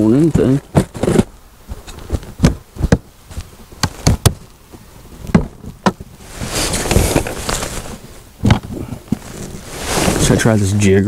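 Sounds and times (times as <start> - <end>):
rustling hiss: 0.0 - 11.0.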